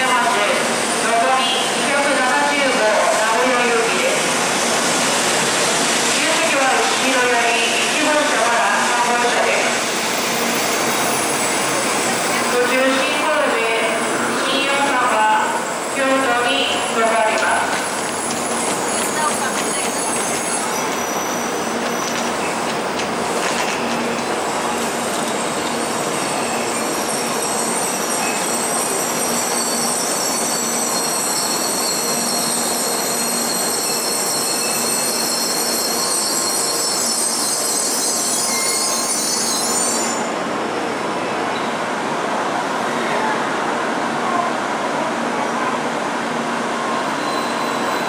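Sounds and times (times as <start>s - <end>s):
train noise: 0.0s - 48.0s.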